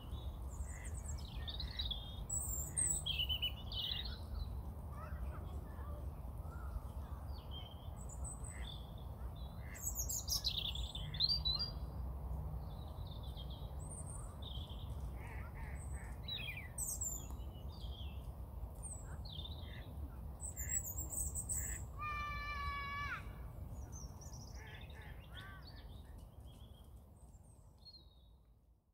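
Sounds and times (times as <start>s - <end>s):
wild birds chirping: 0.0s - 11.9s, 12.6s - 28.4s.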